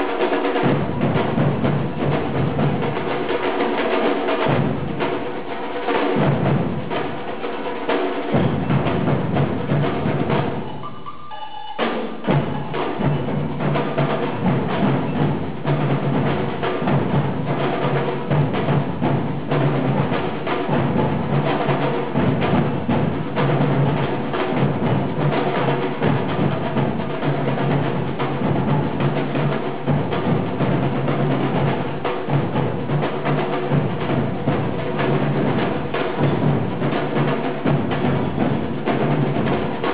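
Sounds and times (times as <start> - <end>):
drums and percussion music: 0.0 - 39.9.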